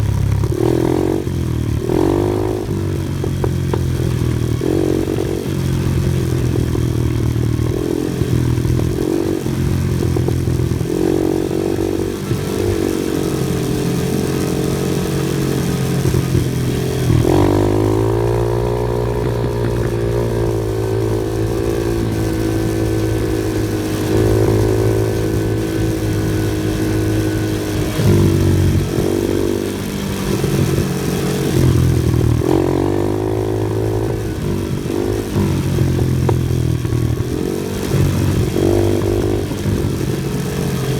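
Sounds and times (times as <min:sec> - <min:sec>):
off-road vehicle engine revving: 0:00.0 - 0:40.9.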